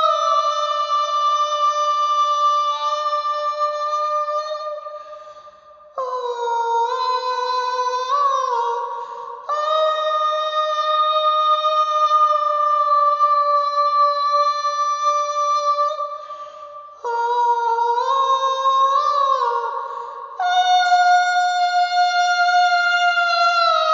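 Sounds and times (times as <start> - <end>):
wordless soprano singing: 0.0 - 23.9.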